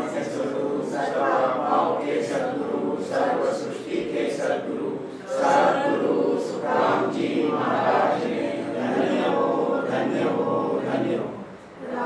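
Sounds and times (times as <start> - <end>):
voices chanting prayer in unison: 0.0 - 12.0.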